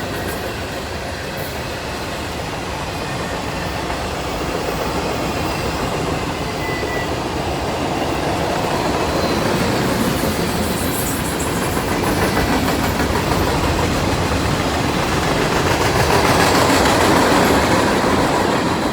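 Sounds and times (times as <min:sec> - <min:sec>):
train wheels clattering on rail: 0:00.0 - 0:18.9.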